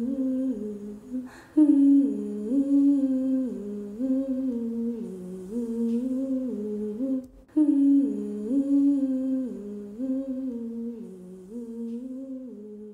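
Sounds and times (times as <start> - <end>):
woman humming a melody: 0.0 - 12.9.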